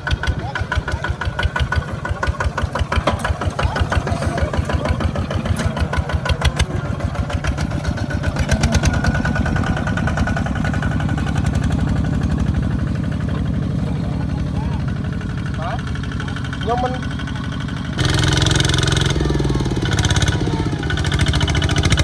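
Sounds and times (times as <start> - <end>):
tractor engine chugging: 0.0 - 22.0.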